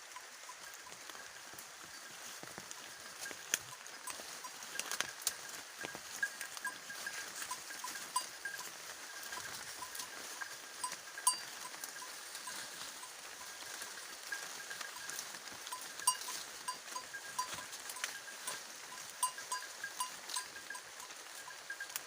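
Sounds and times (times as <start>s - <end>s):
goat bells clinking: 0.0s - 22.0s
steady rustling hiss: 0.0s - 22.0s.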